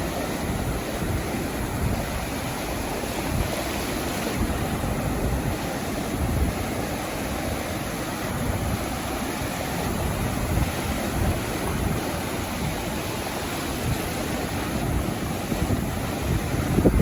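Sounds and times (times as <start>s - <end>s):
sea surf washing onto beach: 0.0s - 17.0s
wind rumble on microphone: 0.0s - 17.0s.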